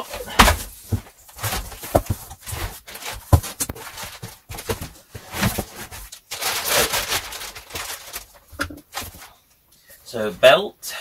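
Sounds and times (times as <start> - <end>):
plastic wrapping rustling: 0.0 - 9.5.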